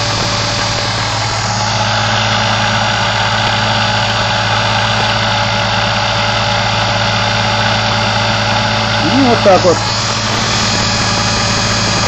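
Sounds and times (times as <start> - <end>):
electric motor humming: 0.0 - 12.0
high motor whir: 0.0 - 12.0.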